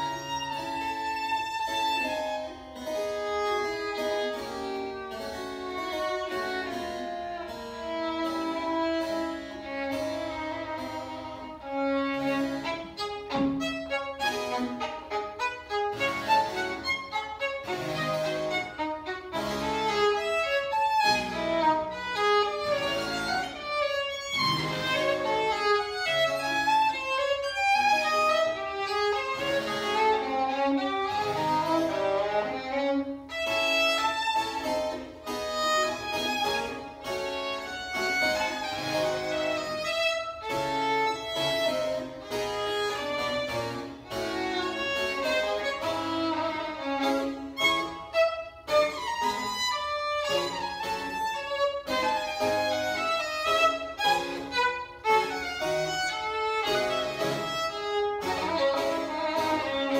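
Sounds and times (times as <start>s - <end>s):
harpsichord chords: 0.0s - 59.9s
violin playing: 0.0s - 59.9s.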